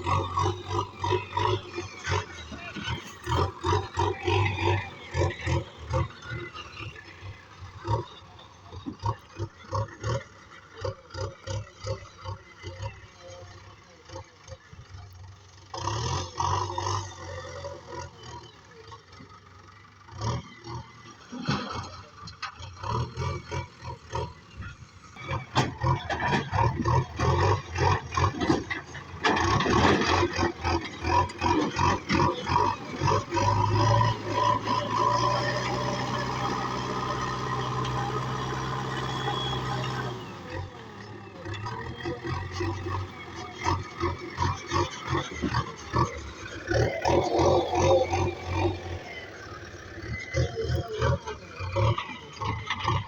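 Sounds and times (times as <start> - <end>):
heavy diesel engine chugging: 0.0 - 53.0.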